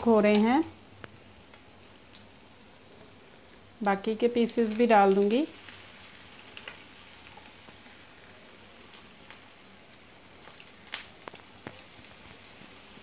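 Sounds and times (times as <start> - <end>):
bread frying in oil: 0.0 - 13.0.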